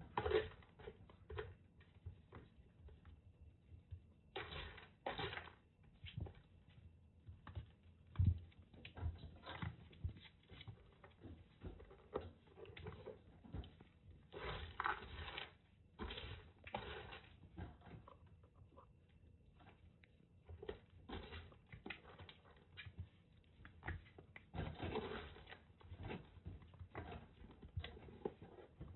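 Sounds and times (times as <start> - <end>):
kittens paw patter: 0.0 - 28.9
kittens scuffling and knocking: 0.0 - 28.9.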